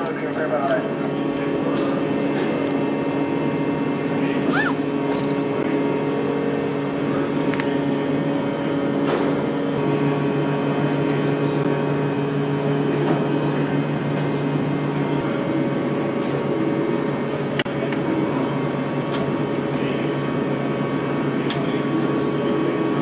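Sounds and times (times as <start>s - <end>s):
ventilation and machinery hum: 0.0s - 23.0s.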